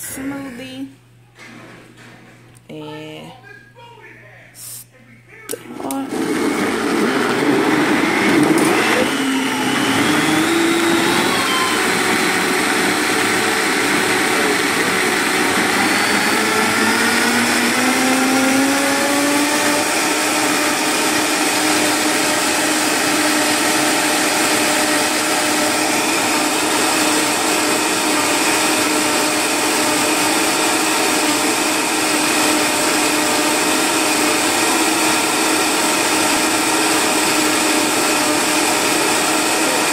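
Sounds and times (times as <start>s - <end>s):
blender motor running: 5.6s - 39.9s.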